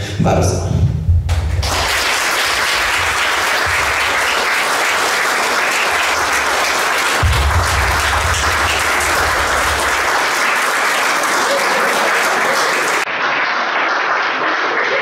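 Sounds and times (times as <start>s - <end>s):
crowd applauding: 1.3s - 15.0s.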